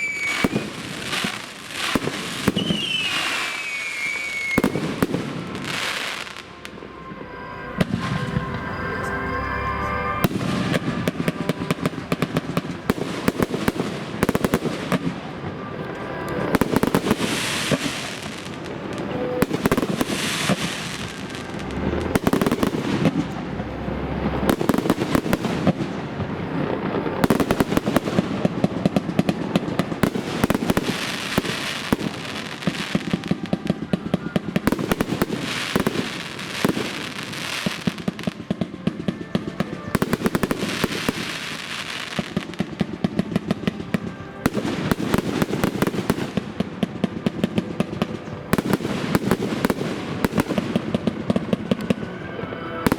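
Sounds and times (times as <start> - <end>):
fireworks bangs and crackling: 0.0 - 9.3, 10.0 - 52.9.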